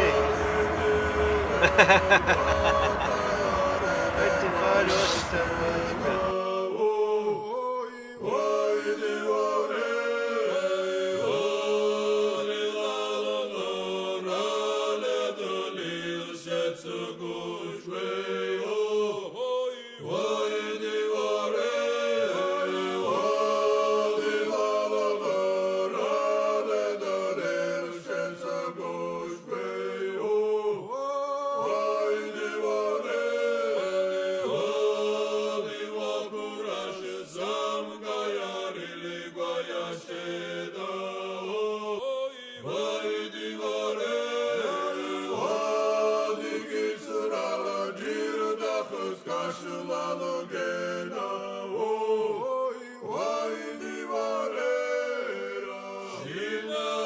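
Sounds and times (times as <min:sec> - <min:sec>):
male choir singing a cappella: 0:00.0 - 0:57.0.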